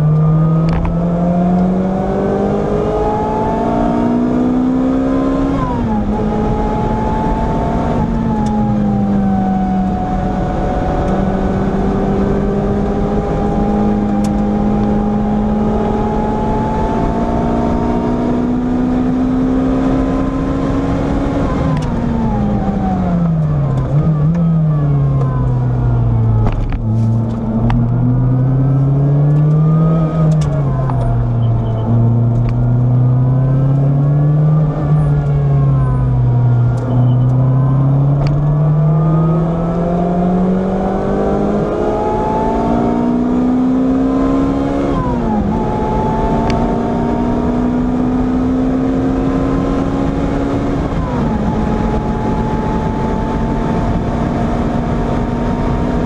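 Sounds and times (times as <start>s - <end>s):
gear upshift: 0.0s - 3.6s, 5.6s - 56.0s
car engine revving: 0.0s - 56.0s.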